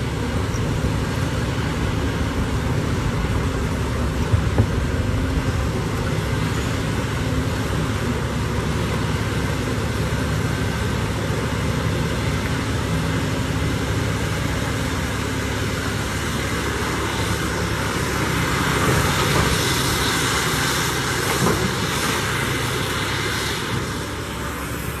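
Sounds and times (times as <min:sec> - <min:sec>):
heavy diesel engines running: 0:00.0 - 0:25.0.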